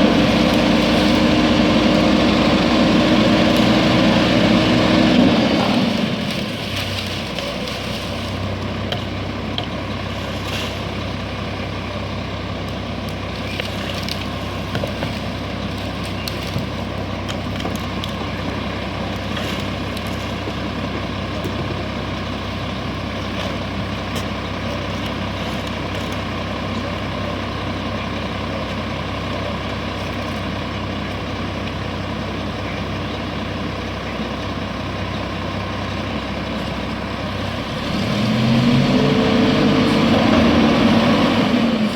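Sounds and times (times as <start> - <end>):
garbage truck engine running: 0.0 - 41.9.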